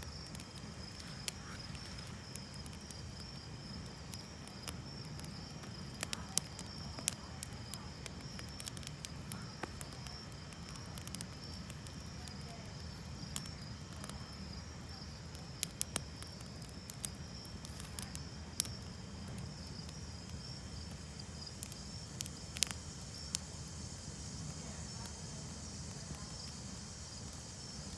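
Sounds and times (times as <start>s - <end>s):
campfire crackling and popping: 0.0s - 27.9s
insects chorus: 0.0s - 27.9s.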